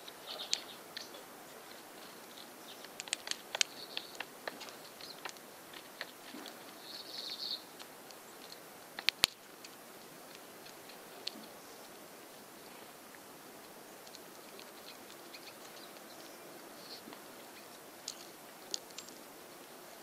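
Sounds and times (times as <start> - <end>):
woodpecker pecking: 0.1 - 19.9.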